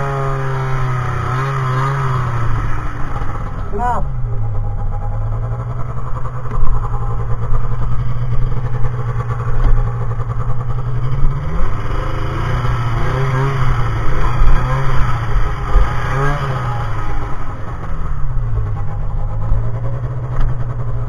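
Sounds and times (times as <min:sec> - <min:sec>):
snowmobile engine idling and revving: 0:00.0 - 0:21.0.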